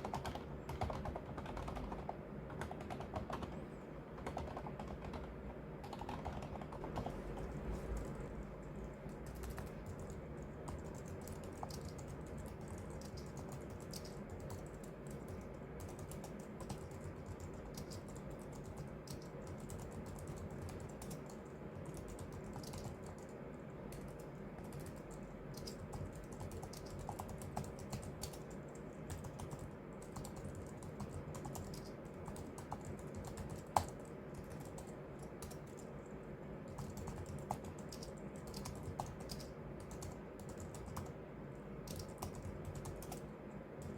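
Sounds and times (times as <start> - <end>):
typing on a computer keyboard: 0.0 - 41.2, 41.8 - 43.9
faint steady hum: 0.0 - 43.9.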